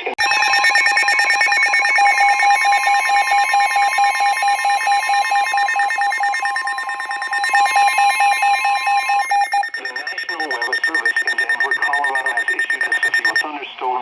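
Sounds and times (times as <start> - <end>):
steady warning alarm tone: 0.0 - 13.4
rapid pulsing electronic beep: 0.0 - 13.5.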